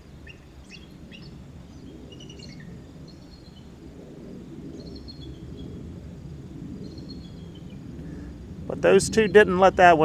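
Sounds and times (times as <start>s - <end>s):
eagles chirping: 0.0s - 5.8s, 6.8s - 9.8s
low outdoor rumble: 0.0s - 10.0s.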